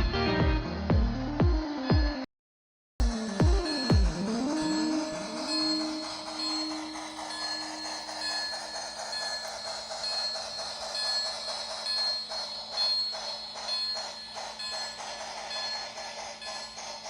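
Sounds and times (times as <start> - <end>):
model train steam chuffs: 3.0 - 17.0
steady high tone: 3.0 - 17.0.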